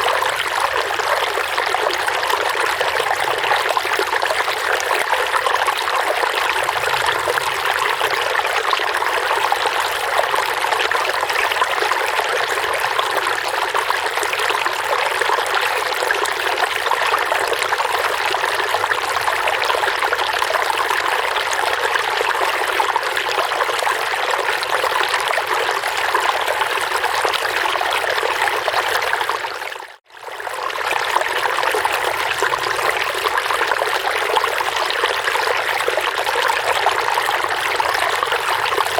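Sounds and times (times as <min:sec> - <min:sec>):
water trickling and burbling: 0:00.0 - 0:38.9.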